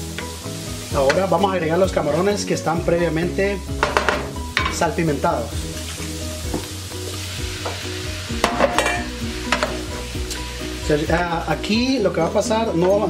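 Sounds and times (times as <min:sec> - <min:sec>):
shrimp sizzling in hot oil: 0:00.0 - 0:13.0.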